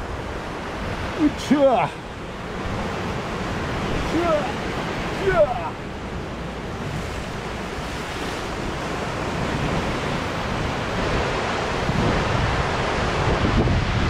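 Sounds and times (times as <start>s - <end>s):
waves breaking over rocks: 0.0s - 14.0s
wind rumbling on microphone: 2.0s - 14.0s.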